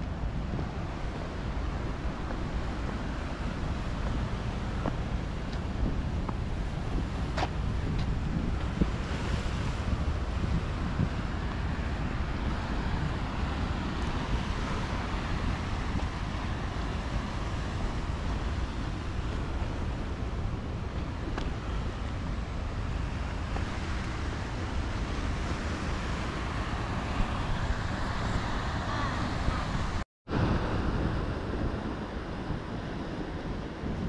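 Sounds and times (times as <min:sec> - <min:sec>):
surf washing against rocks: 0:00.0 - 0:34.0
wind buffeting microphone: 0:00.0 - 0:34.0.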